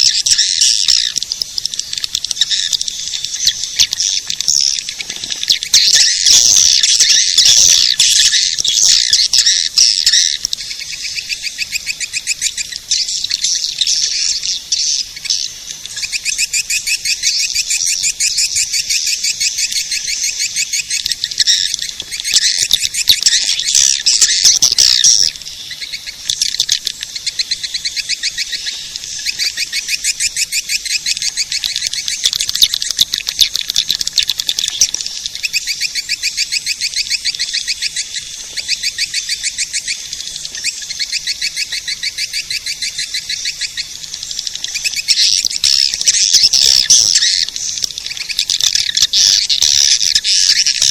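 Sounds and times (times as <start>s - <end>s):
swiftlets twittering chirps: 0.0s - 50.9s.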